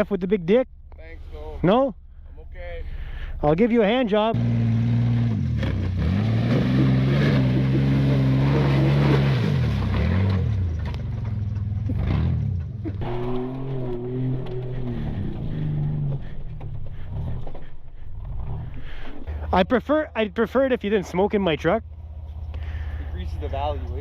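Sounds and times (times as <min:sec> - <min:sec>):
truck engine revving: 0:04.3 - 0:24.0.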